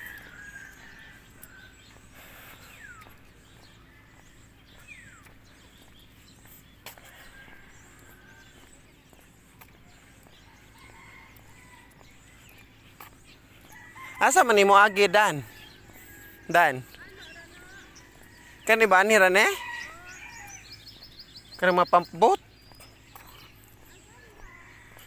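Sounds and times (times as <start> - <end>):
distant roosters crowing: 0.0 - 25.0.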